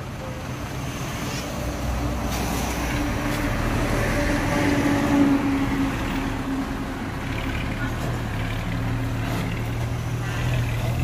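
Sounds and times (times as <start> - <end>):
heavy truck engine humming: 0.0 - 11.0.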